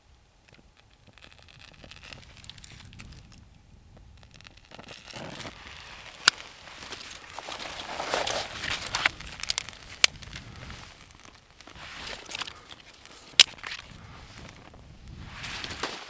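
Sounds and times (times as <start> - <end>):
crunching and crackling: 0.0 - 16.0
sharp cracks: 0.5 - 16.0.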